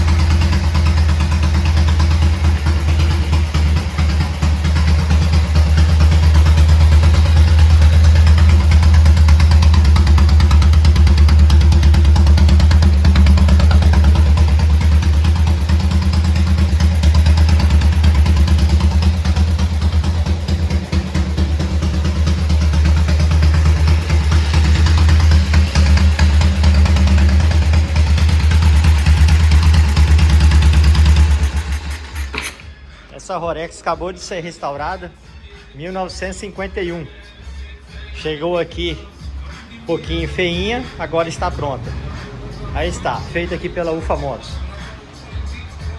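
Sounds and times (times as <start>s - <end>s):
motorcycle engine idling: 0.0s - 32.8s, 37.9s - 45.9s.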